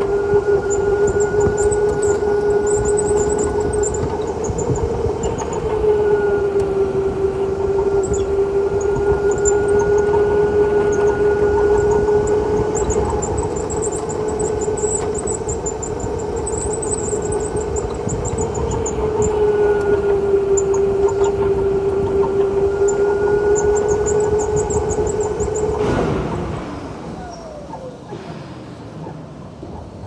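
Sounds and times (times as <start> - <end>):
electric go-kart motor whining: 0.0 - 30.0
tyre and track noise: 0.0 - 30.0.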